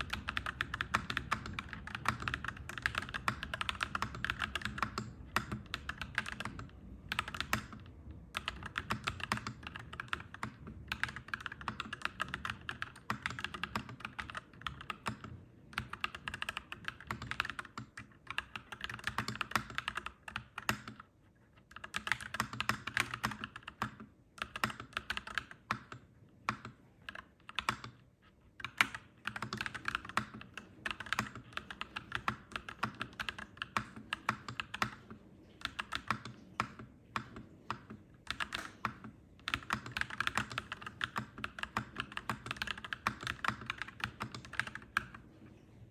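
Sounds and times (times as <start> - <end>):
mechanical keyboard typing: 0.0 - 45.3.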